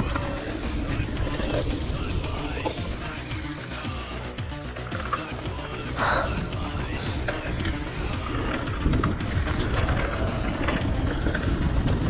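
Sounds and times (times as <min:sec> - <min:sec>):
background music: 0:00.0 - 0:12.0
mountain bike rattling on rough trail: 0:00.0 - 0:12.0.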